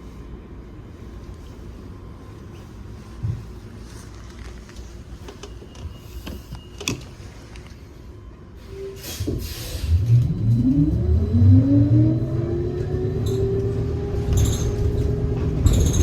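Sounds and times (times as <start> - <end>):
low rumble of moving bus: 0.0 - 16.0.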